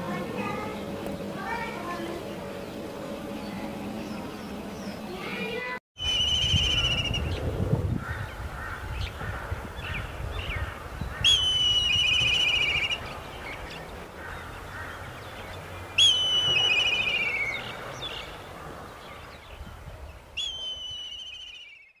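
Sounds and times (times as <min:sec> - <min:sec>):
kite calling: 0:00.0 - 0:14.9, 0:15.9 - 0:18.6, 0:19.2 - 0:22.0.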